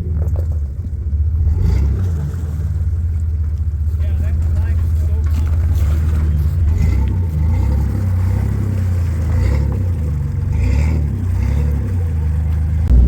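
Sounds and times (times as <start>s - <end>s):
deep engine rumble: 0.0s - 13.0s
truck engine revving: 0.0s - 13.0s.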